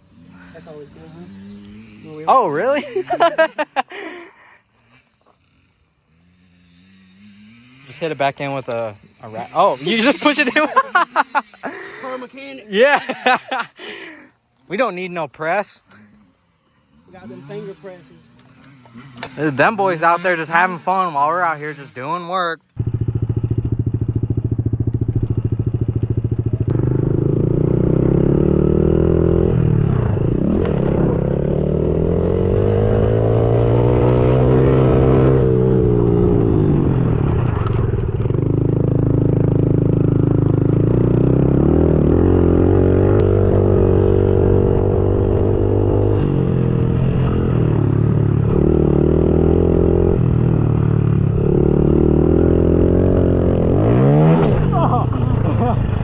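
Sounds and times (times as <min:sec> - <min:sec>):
dirt bike engine revving: 0:00.0 - 0:14.1, 0:14.7 - 0:56.0.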